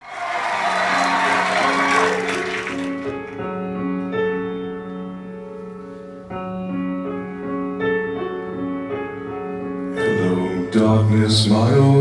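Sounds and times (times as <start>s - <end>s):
slow sparse piano: 2.2s - 12.0s.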